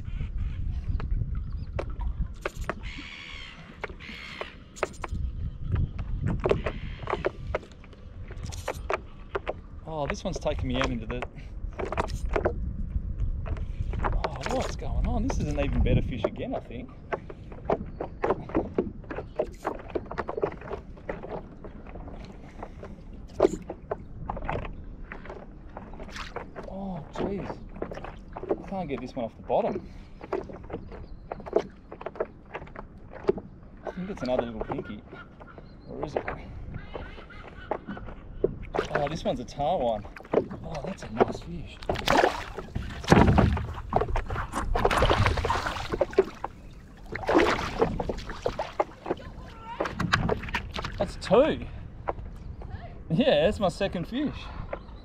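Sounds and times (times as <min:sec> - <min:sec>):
wind rumble on microphone: 0:00.0 - 0:03.5, 0:04.2 - 0:29.0, 0:35.7 - 0:55.0
water lapping against paddleboard: 0:00.0 - 0:55.0.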